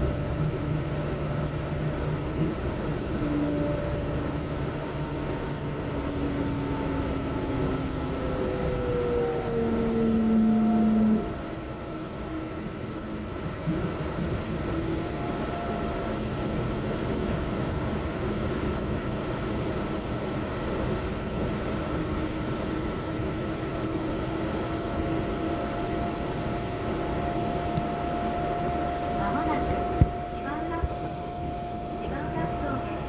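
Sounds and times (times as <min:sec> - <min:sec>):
train tyres rumbling on track: 0:00.0 - 0:33.0.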